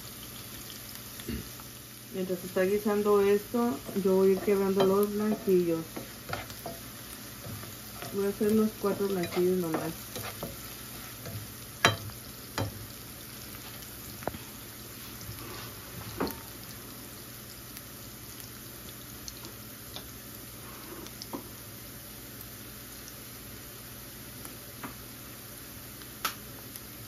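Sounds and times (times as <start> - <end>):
onion sizzling in oil: 0.0 - 27.0.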